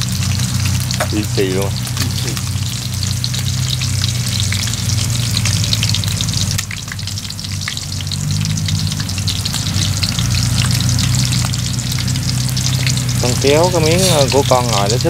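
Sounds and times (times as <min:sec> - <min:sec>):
low hum: 0:00.0 - 0:14.5
meat frying in oil: 0:00.0 - 0:15.0.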